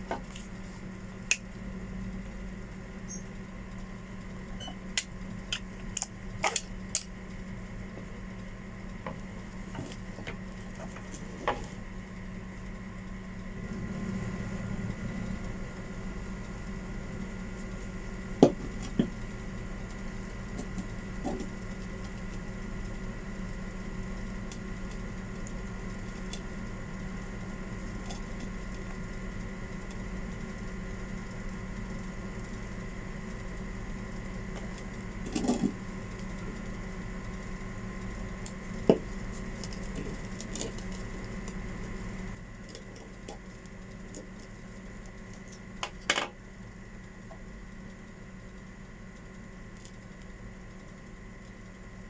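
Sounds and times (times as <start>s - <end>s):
steady hum: 0.0s - 52.0s.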